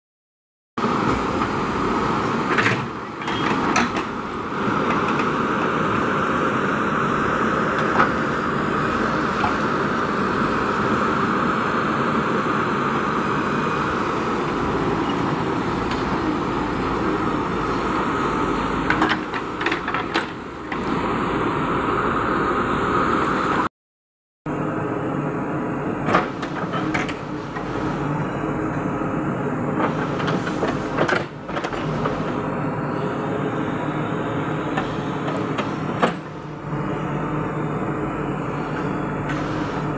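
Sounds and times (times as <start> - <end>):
diesel engine under load: 0.8 - 23.7, 24.5 - 39.9.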